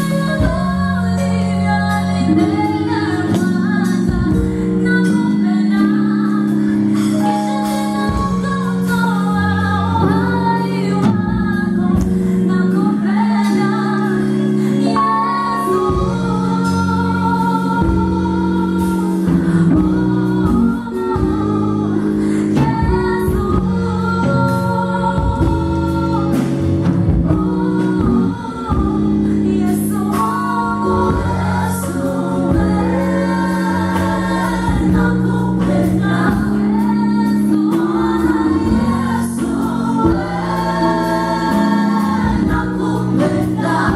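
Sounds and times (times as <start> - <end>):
band accompaniment: 0.0 - 43.9
choir singing harmonies: 0.0 - 43.9.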